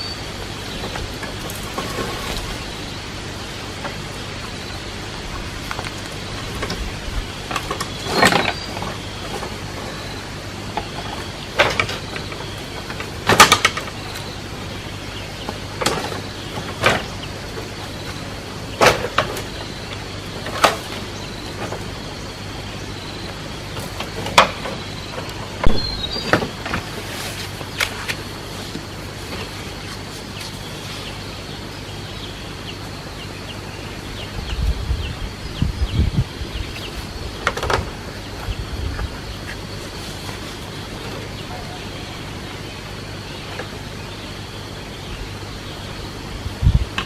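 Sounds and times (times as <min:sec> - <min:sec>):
steady background hiss: 0:00.0 - 0:47.0.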